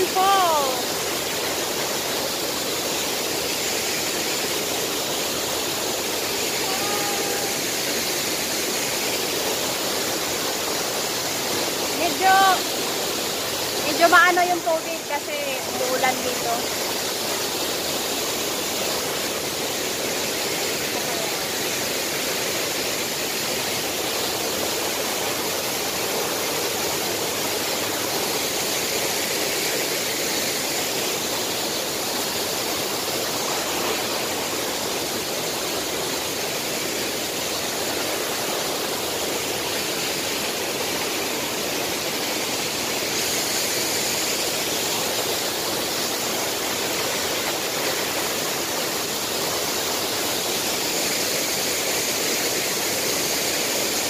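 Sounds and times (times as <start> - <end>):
waterfall rushing into pool: 0.0 - 54.0.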